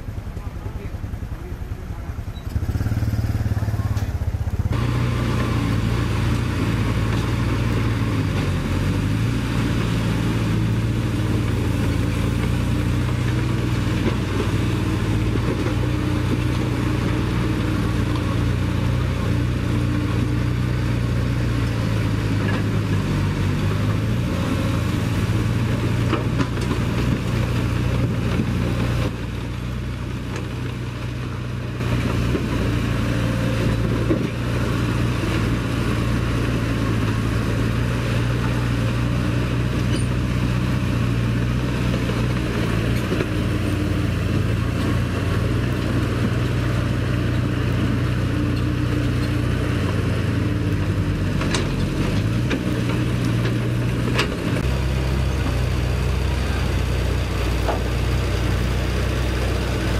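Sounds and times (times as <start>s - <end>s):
diesel engines droning: 0.0s - 59.9s.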